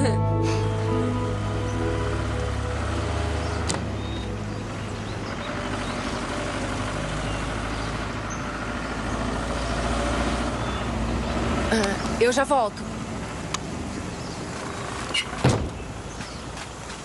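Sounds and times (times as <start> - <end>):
van driving by: 0.0 - 16.6.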